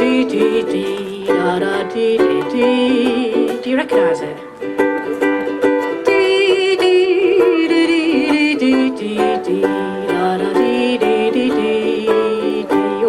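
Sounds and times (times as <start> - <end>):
ukulele plucked notes: 0.0 - 13.0.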